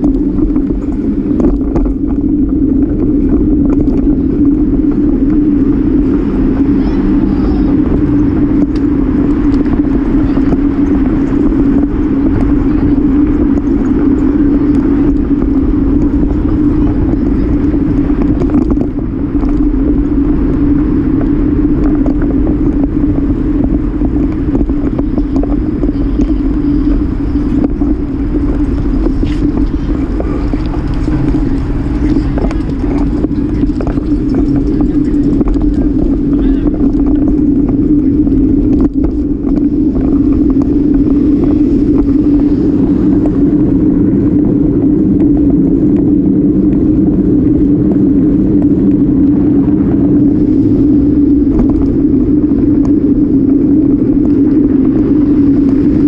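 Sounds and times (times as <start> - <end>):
constant low hum: 0.0 - 56.0
wind rush on microphone: 0.0 - 56.0.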